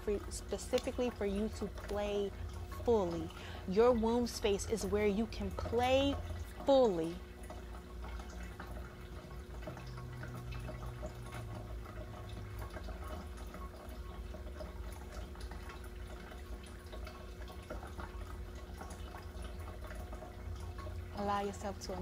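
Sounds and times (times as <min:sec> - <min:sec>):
low steady tone: 0:00.0 - 0:22.0
water dripping and trickling: 0:00.0 - 0:22.0.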